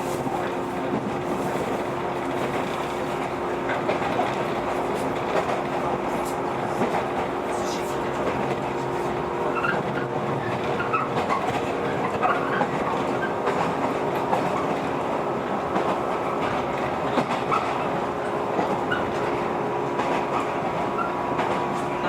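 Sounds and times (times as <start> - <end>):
train rumble: 0.0 - 22.0
wheels clicking over rails: 0.0 - 22.0.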